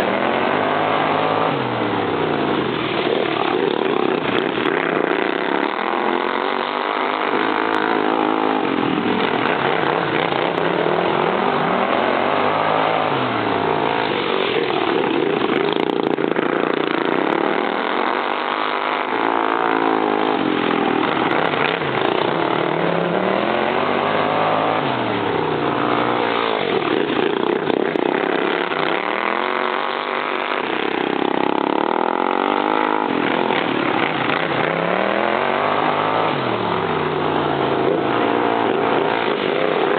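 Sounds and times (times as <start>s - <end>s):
racing lawn mower engines: 0.0s - 39.9s.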